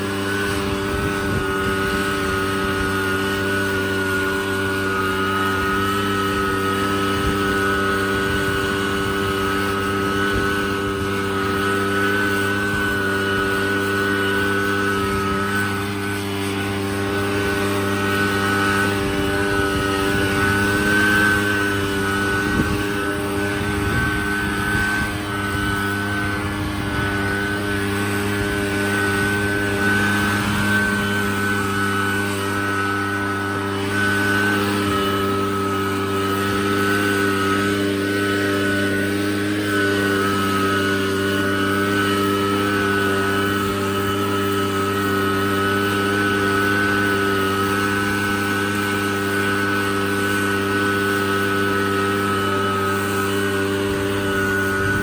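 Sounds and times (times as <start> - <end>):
engine humming with whine: 0.0 - 55.0.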